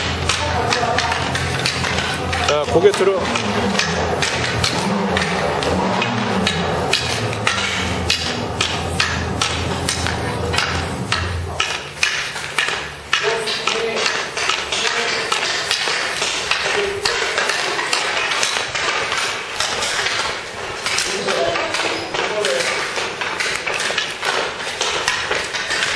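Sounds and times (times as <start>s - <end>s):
hockey sticks striking pucks: 0.0s - 25.9s.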